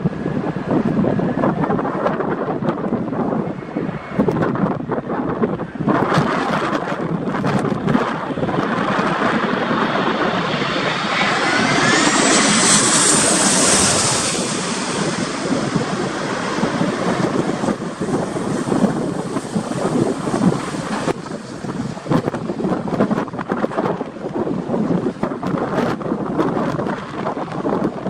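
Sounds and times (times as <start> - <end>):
jet engines whining: 0.0 - 24.3
wind buffeting microphone: 0.0 - 28.0.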